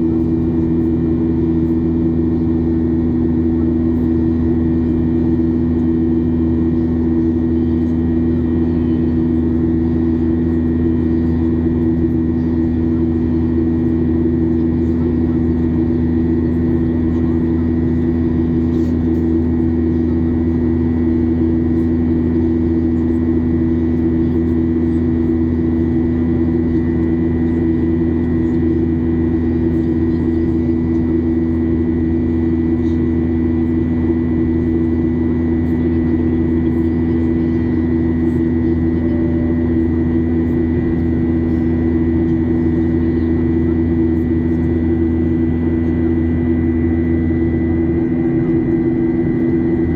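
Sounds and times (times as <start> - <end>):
jet engine drone in cabin: 0.0 - 49.9.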